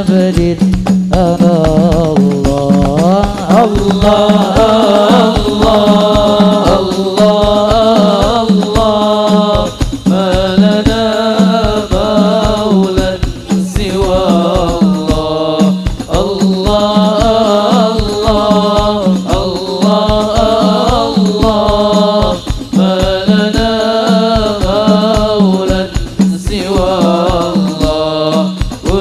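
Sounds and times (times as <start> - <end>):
frame drums beating: 0.0 - 29.0
men singing: 0.0 - 29.0.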